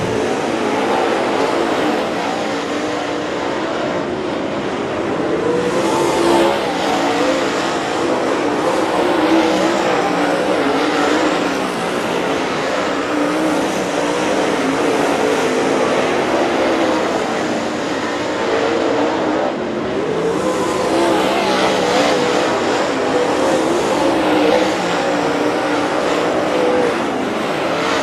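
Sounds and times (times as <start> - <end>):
race car engines racing: 0.0 - 28.0.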